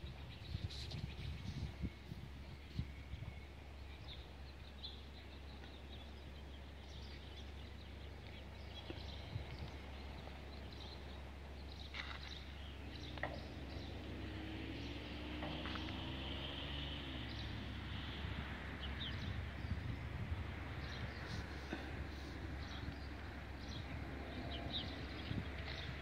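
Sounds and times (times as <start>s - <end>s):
distant engine hum: 0.0s - 26.0s.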